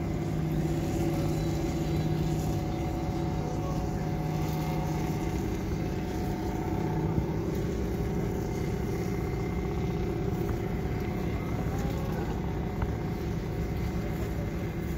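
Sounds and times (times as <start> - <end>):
engine running low hum: 0.0 - 14.9.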